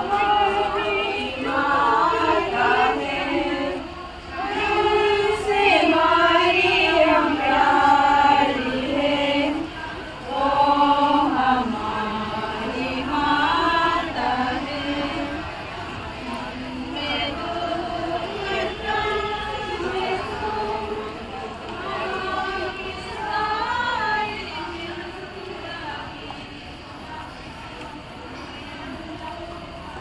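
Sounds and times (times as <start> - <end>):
group singing a hymn: 0.0 - 30.0.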